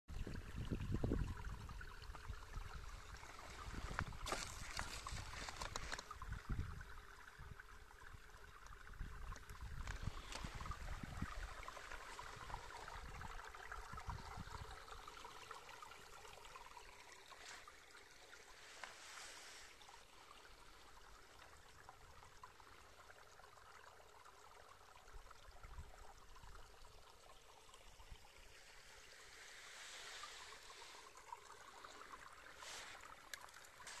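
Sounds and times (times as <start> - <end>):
brook trickling over rocks: 0.1 - 34.0.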